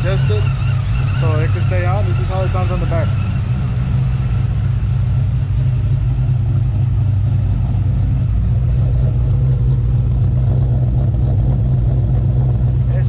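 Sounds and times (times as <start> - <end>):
engine idling from exhaust: 0.0 - 13.0.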